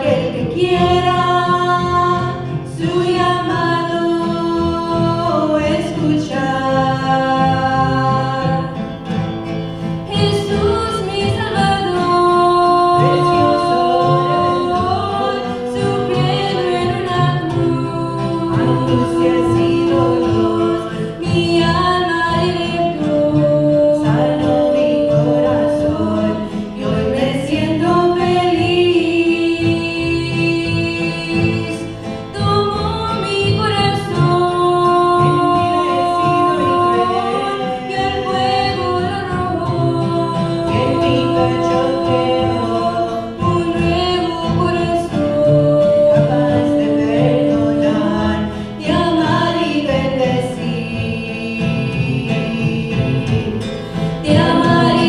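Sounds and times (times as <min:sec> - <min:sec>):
women singing a hymn: 0:00.0 - 0:09.0, 0:09.9 - 0:55.0
strummed acoustic guitar: 0:00.0 - 0:55.0.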